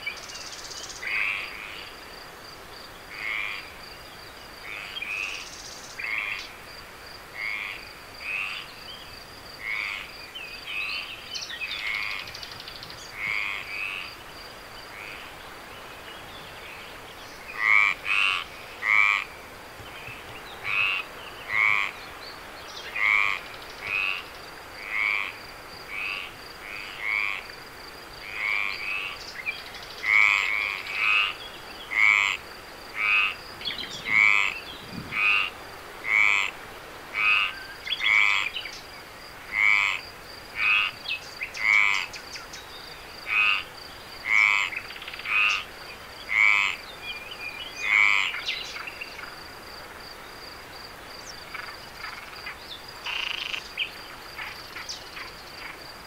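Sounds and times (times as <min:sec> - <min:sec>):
frogs croaking: 0:00.0 - 0:56.0.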